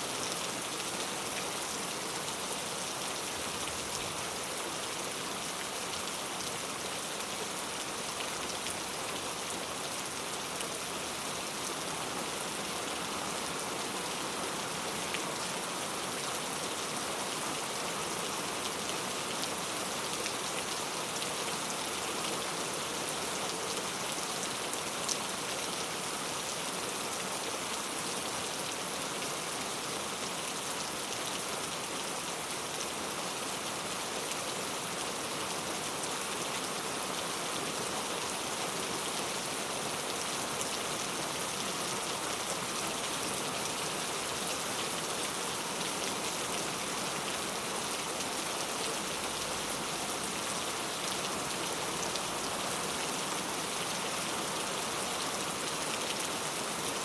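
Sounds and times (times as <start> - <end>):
heavy rain on hard street: 0.0 - 57.0.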